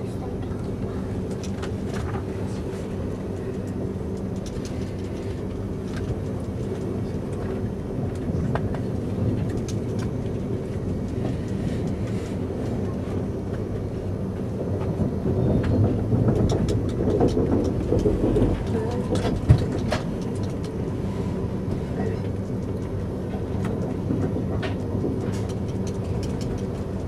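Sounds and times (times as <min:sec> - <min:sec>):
train cabin rumble and hum: 0:00.0 - 0:27.0
wheels clicking on rails: 0:03.4 - 0:27.0.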